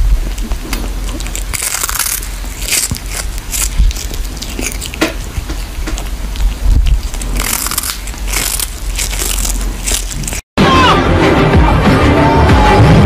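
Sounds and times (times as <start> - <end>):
irregular crunching and crackling: 0.0 - 10.5.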